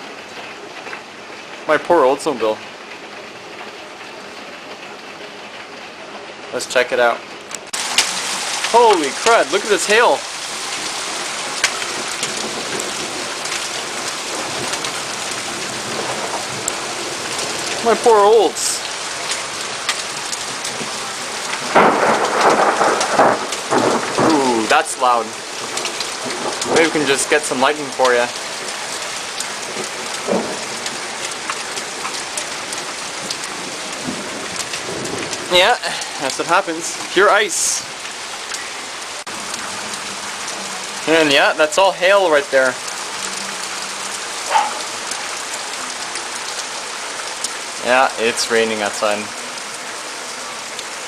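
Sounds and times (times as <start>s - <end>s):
heavy rain: 0.0s - 51.0s
hailstones ticking: 7.0s - 51.0s.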